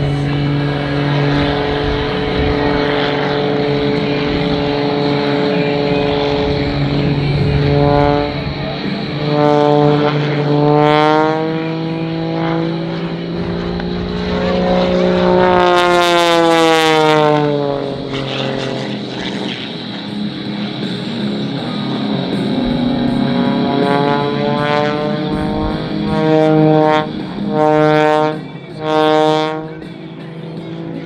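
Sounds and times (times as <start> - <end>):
stunt plane engine and propeller: 0.0 - 31.0.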